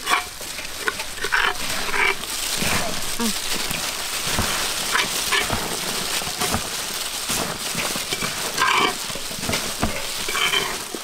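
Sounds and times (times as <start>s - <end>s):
gloved hands mixing fruit: 0.0s - 11.0s.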